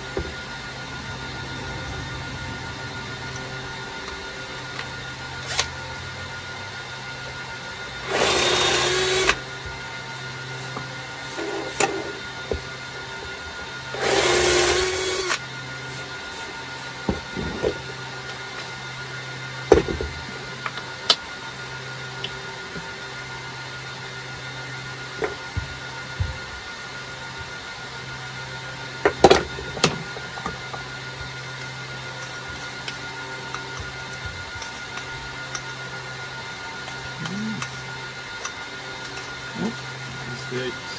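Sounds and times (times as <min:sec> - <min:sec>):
cordless drill boring wood: 0:00.0 - 0:40.9.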